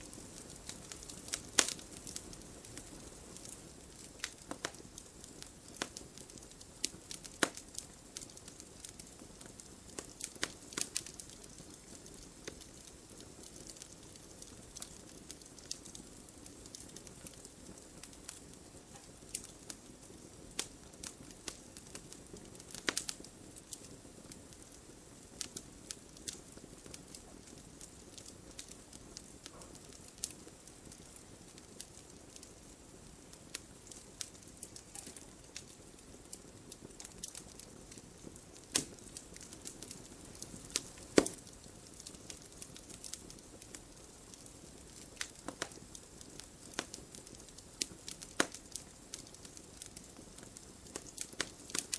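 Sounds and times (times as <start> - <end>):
fire hissing: 0.0 - 28.9, 29.8 - 51.9
burning logs crackling and popping: 0.0 - 51.9.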